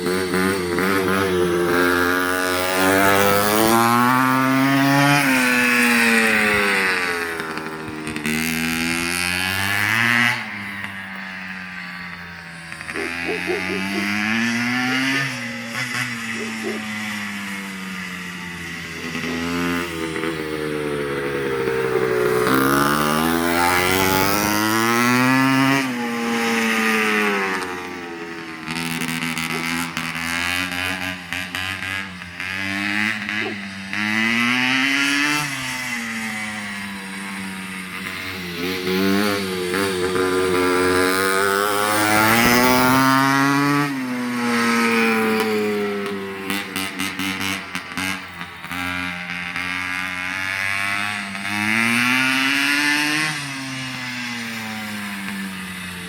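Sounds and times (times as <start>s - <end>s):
engine crackle: 0.0s - 56.0s
two-stroke motorbike engine revving: 0.0s - 56.0s.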